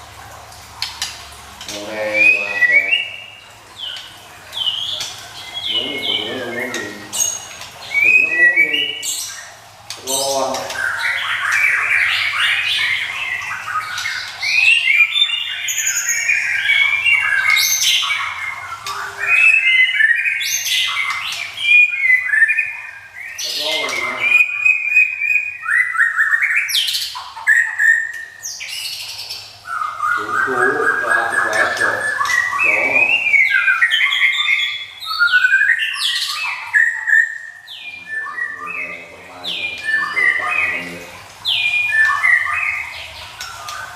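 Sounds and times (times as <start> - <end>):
bird singing whistles and chatter: 1.7 - 4.0, 4.7 - 28.9, 29.7 - 43.9.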